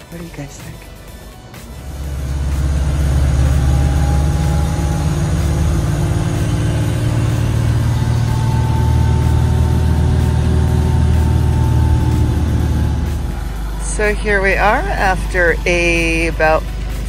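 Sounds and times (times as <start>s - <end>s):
minibus engine drone: 0.0s - 17.0s.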